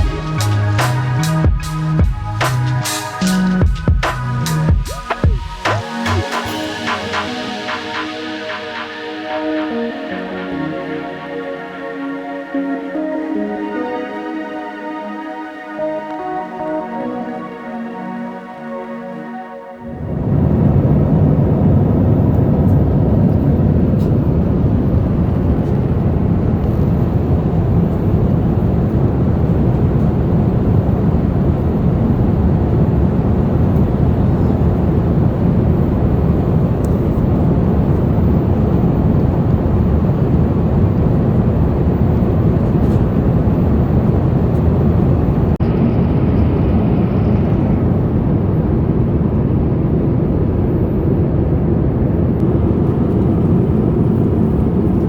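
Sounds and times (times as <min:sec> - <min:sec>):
jet airliner cabin roar: 0:00.0 - 0:19.2, 0:19.8 - 0:55.0.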